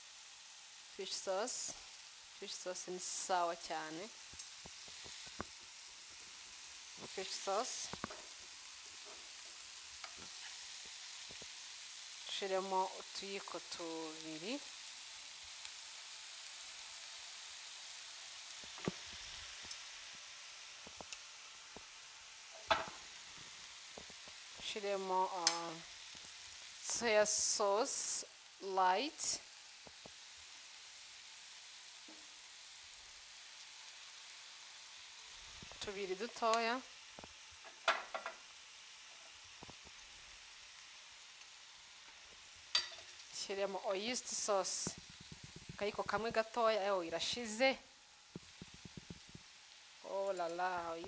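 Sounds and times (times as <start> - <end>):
vegetables sizzling in frying pan: 0.0 - 51.0.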